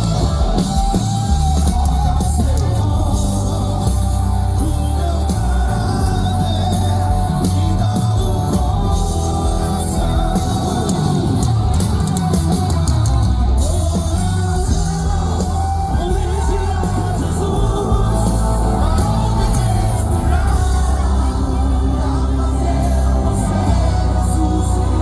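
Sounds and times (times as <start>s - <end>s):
heavy bass: 0.0s - 25.0s
live band playing gospel music: 0.0s - 25.0s
person singing: 0.0s - 25.0s.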